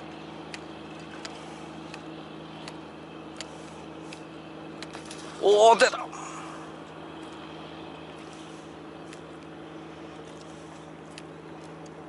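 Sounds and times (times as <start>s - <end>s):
boat engine idling: 0.0s - 12.0s
water noise: 0.0s - 12.0s
wind: 0.0s - 12.0s.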